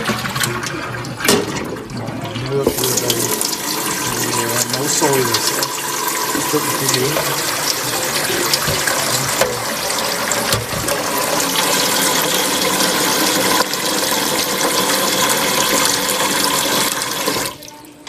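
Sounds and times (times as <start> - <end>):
tap water filling pot: 0.0 - 17.8.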